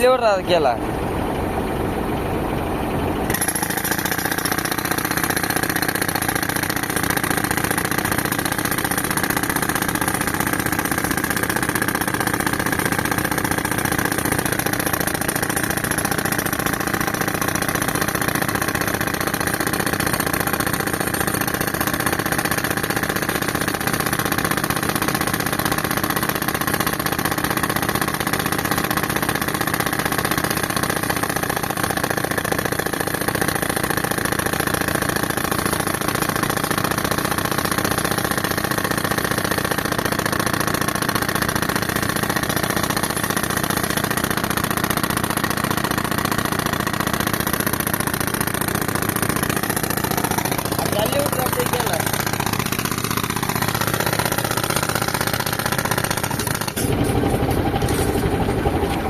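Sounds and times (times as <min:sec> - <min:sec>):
tractor engine running: 0:00.0 - 0:59.0
jackhammer hammering on concrete: 0:03.2 - 0:59.0.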